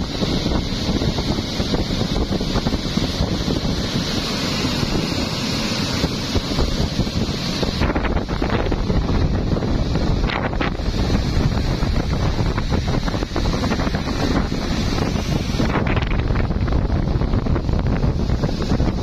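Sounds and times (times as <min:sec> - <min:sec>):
high hiss: 0:00.0 - 0:19.0
speedboat rushing on water: 0:00.0 - 0:19.0
wind buffeting microphone: 0:00.0 - 0:19.0.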